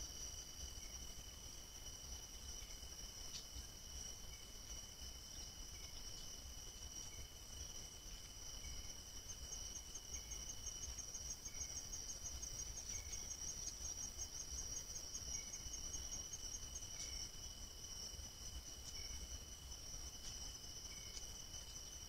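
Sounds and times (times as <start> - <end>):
crickets trilling: 0.0 - 22.0
fast pulsing insect trill: 0.0 - 22.0.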